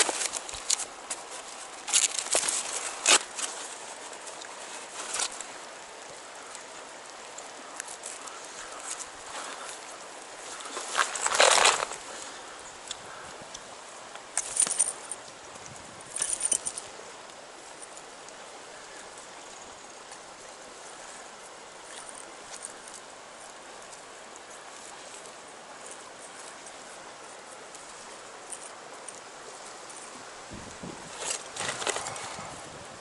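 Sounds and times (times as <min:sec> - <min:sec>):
river water rushing: 0:00.0 - 0:30.6.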